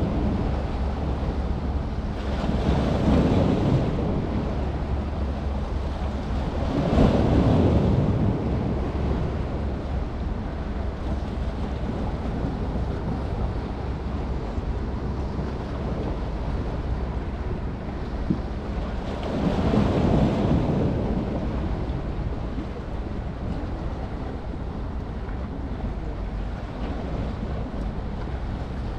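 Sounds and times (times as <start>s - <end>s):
waves washing: 0.0s - 28.9s
wind buffeting microphone: 0.0s - 28.9s.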